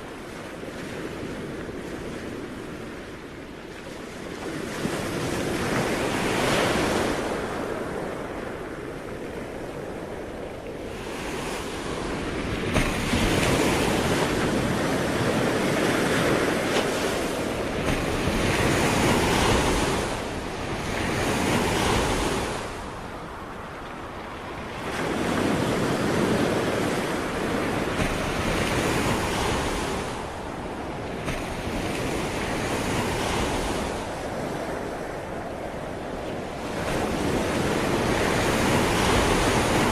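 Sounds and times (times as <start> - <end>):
ocean waves breaking on shore: 0.0 - 39.9
wind noise on microphone: 0.0 - 39.9.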